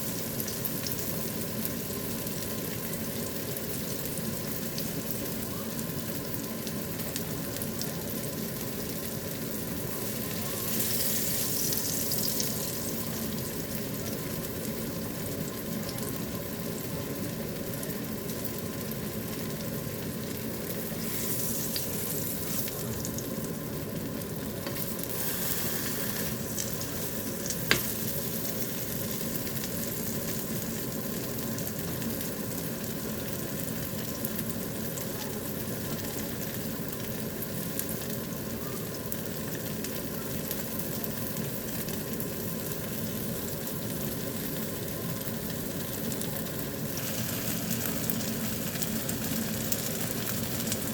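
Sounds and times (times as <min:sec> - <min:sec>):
rice cakes sizzling in a frying pan: 0:00.0 - 0:50.9.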